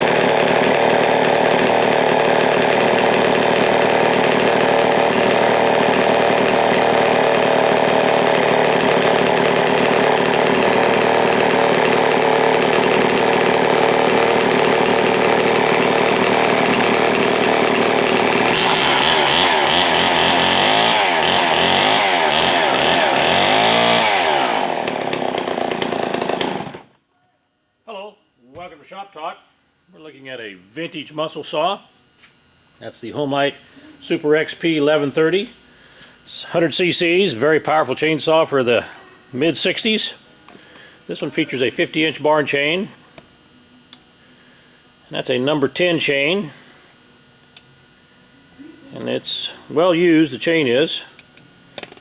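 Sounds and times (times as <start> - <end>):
chainsaw running loud: 0.0 - 27.0, 33.2 - 47.6, 48.9 - 52.0.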